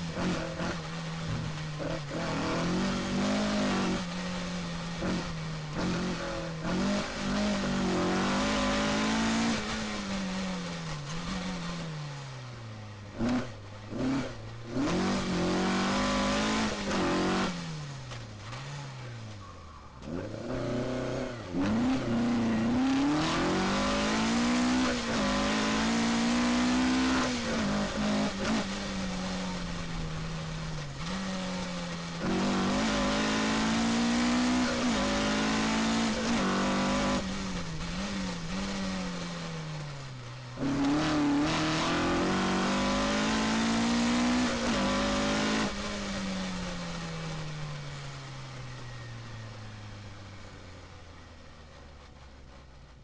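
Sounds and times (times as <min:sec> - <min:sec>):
rally car engine revving: 0:00.0 - 0:49.4.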